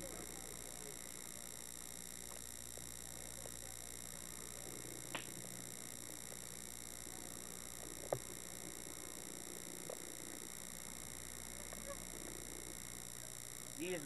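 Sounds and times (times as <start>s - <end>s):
camcorder hiss and hum: 0.0s - 14.0s.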